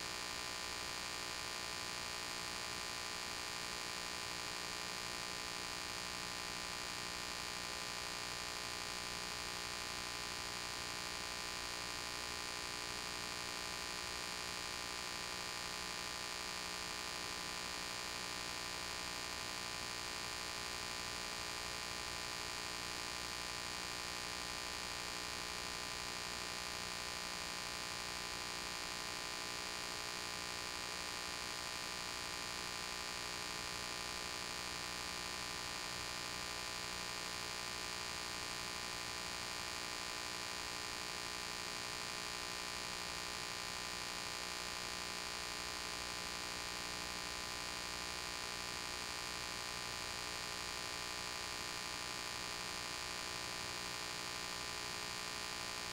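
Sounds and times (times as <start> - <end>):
electrical hum with hiss: 0.0 - 55.9.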